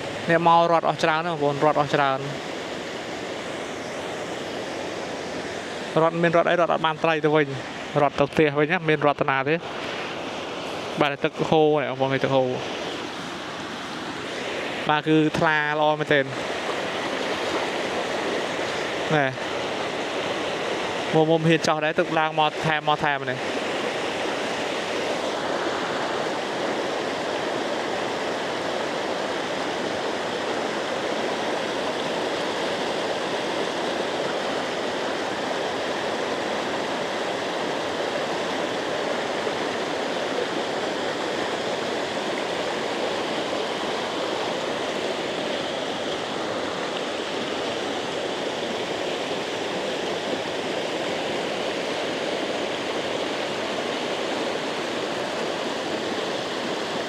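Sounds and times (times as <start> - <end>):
water rushing through channel: 0.0 - 57.0.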